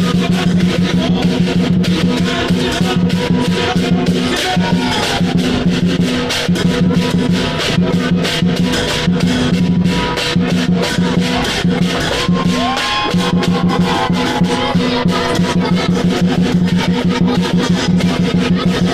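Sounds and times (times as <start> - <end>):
cymbals clashing: 0.0 - 18.9
drum beating fast rhythm: 0.0 - 18.9.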